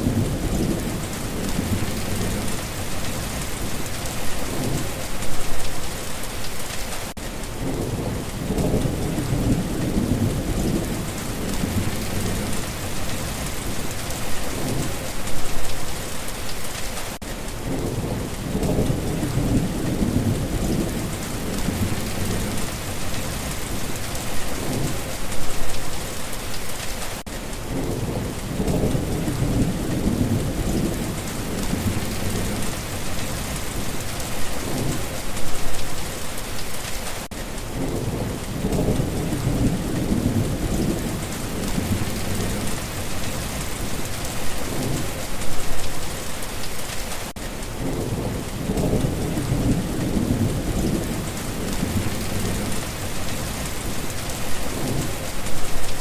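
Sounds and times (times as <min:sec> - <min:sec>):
low rolling thunder: 0:00.0 - 0:05.5, 0:07.6 - 0:15.3, 0:17.6 - 0:25.8, 0:27.6 - 0:35.8, 0:37.7 - 0:45.8, 0:47.7 - 0:56.0
heavy rain: 0:00.0 - 0:56.0.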